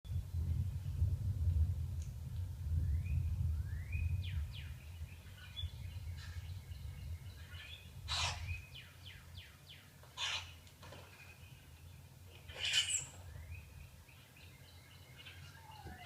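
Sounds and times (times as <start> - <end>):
small birds chirping: 2.9 - 16.0.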